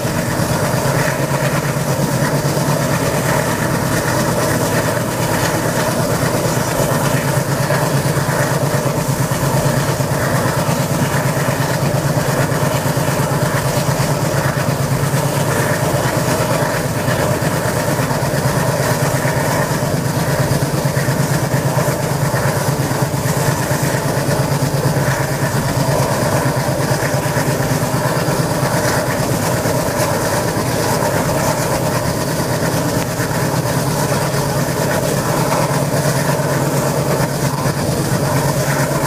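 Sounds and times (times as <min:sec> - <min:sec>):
diesel locomotives chugging: 0:00.0 - 0:39.0
wind: 0:00.0 - 0:39.0.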